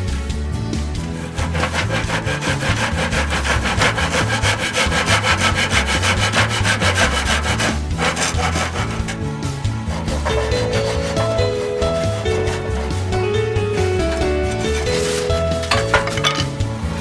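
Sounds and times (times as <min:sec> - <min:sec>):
hand saw cutting wood: 0:00.7 - 0:17.0.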